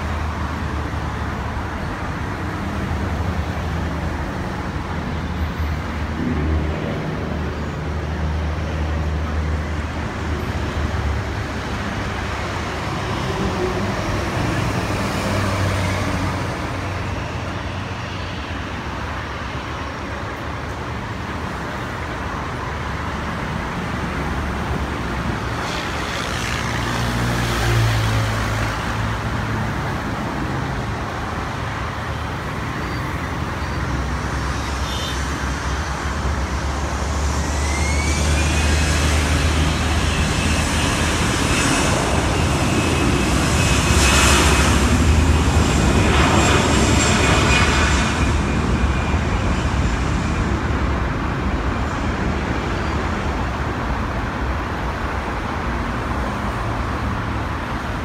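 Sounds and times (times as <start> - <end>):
road traffic: 0.0 - 58.0.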